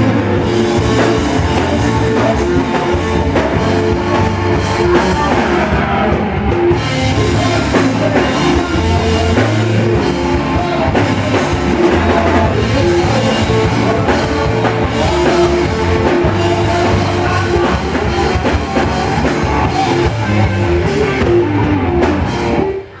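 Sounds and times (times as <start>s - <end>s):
drum kit: 0.0s - 23.0s
guitar: 0.0s - 23.0s.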